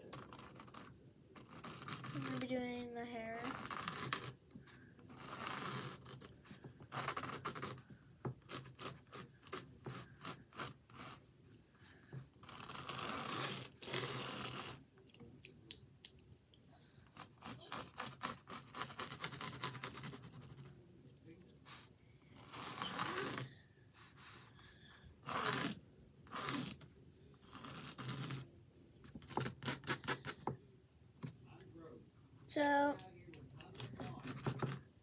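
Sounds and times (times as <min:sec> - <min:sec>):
pencil rubbing strokes: 0:00.0 - 0:14.9, 0:17.0 - 0:20.8, 0:21.5 - 0:30.6, 0:33.6 - 0:35.0
pencil scratching on canvas: 0:00.0 - 0:14.9, 0:17.0 - 0:20.8, 0:21.6 - 0:30.6, 0:33.5 - 0:35.0.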